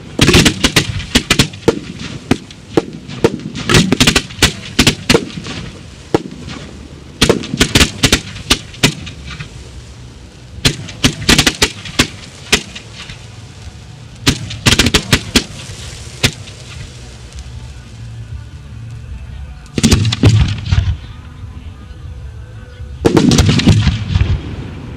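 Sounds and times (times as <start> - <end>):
fireworks bangs and crackling: 0.0 - 21.4, 23.0 - 24.9.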